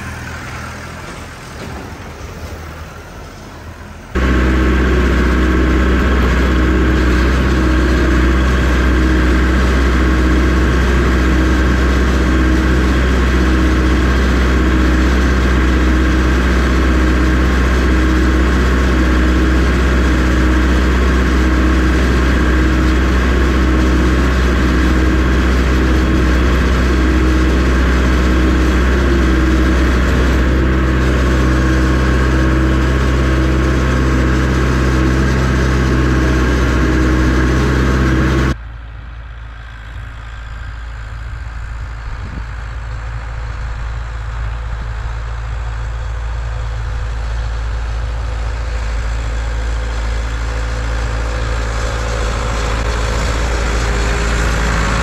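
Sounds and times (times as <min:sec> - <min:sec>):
loader engine running: 0:00.0 - 0:55.0.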